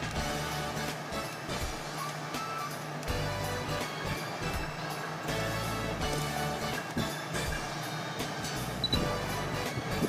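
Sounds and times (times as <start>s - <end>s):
background music with sustained notes: 0.0s - 10.0s.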